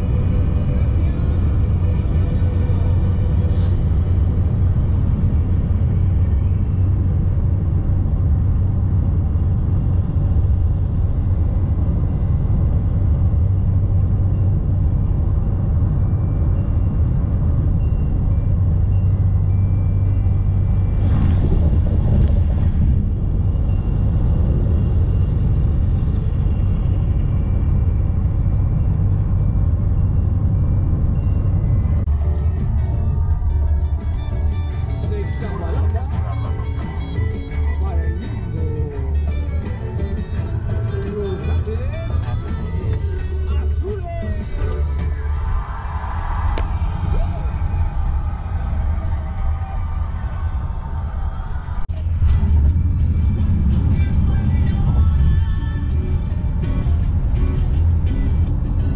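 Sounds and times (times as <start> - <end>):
tyre and wind noise: 0.0 - 35.3, 38.3 - 58.9
car road rumble: 0.0 - 58.9
loud whoosh: 0.0 - 58.9.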